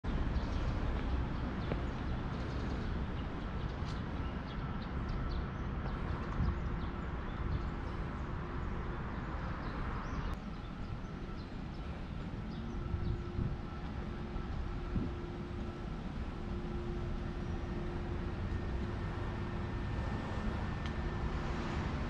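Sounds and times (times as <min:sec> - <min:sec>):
low rumble of traffic: 0:00.0 - 0:22.0
birds chirping: 0:00.1 - 0:18.9.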